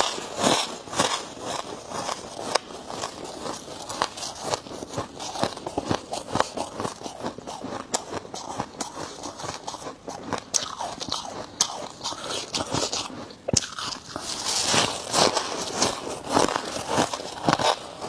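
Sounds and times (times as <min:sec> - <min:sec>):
frost being chewed: 0:00.0 - 0:18.0.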